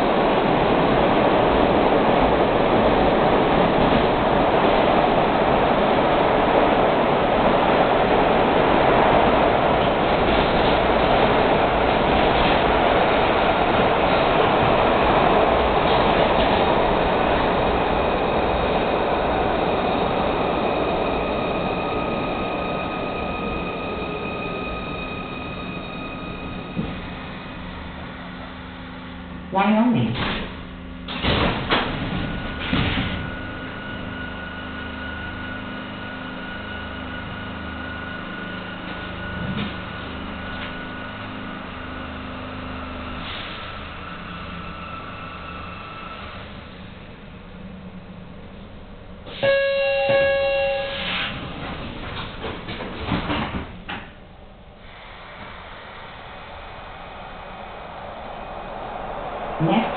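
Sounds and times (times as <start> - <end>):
subway car wheels and motors rumbling: 0.0 - 59.9.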